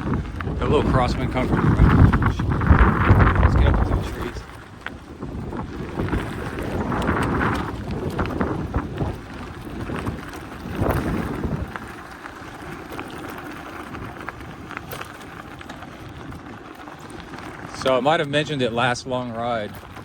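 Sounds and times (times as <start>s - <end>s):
bicycle tyres rolling on gravel: 0.0s - 20.0s
wind buffeting microphone: 0.0s - 20.0s.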